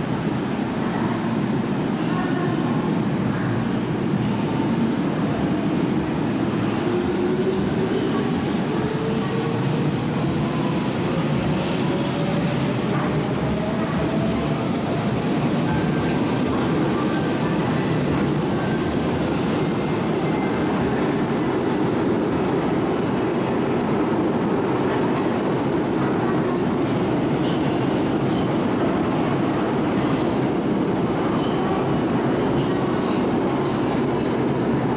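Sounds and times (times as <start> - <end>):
echoing train wheel rumble: 0.0 - 34.9.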